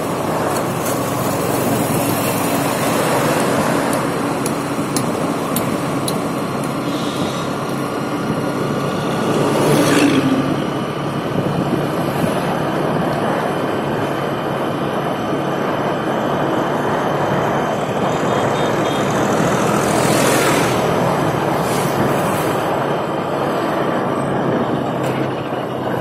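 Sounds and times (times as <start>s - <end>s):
motor scooter engine and road rush: 0.0s - 26.0s.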